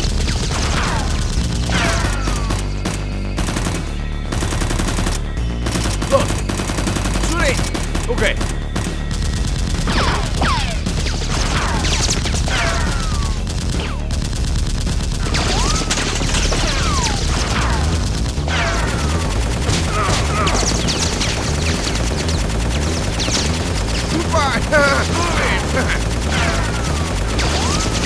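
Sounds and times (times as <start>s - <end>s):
rapid gunfire: 0.0s - 28.0s.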